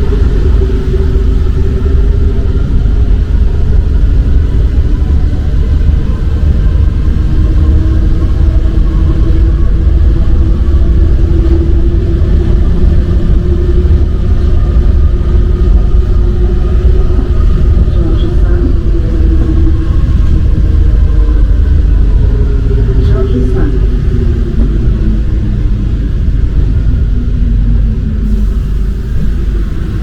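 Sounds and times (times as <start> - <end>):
constant hum: 0.0 - 30.0
metro train rumbling: 0.0 - 30.0.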